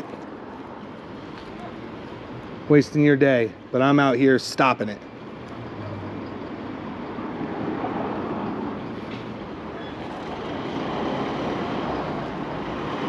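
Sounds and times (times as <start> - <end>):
street traffic rushing: 0.0 - 13.0.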